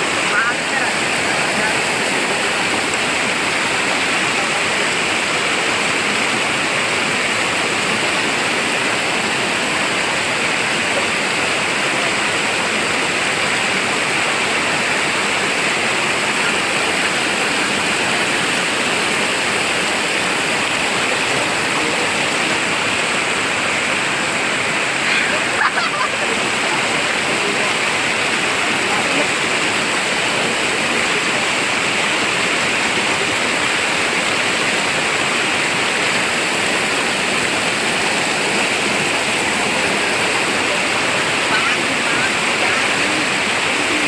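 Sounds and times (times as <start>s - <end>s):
river water rushing: 0.0s - 44.0s.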